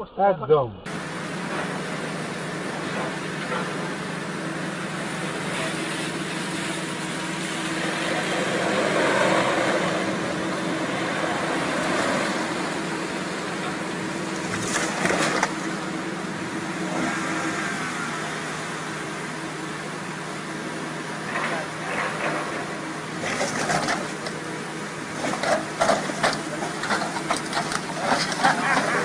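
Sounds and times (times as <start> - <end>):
car tyre and engine hum: 0.9 - 29.0.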